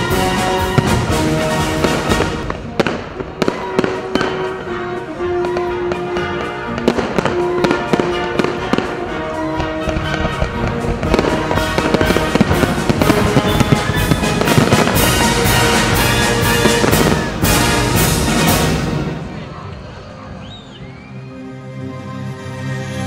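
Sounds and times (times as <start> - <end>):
fireworks bangs and crackles: 0.0 - 19.9
background music with held notes: 0.0 - 20.4, 21.0 - 23.0.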